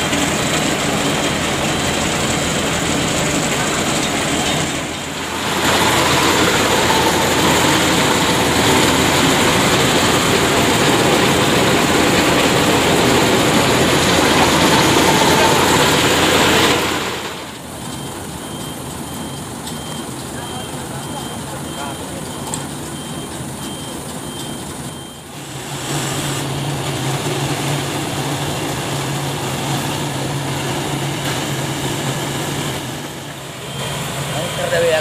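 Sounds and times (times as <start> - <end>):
tow truck engines running hard: 0.0 - 35.0.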